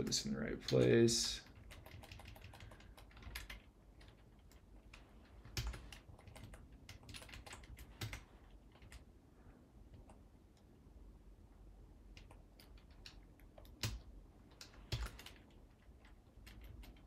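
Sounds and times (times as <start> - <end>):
keyboard typing: 0.0 - 9.1, 12.1 - 17.0.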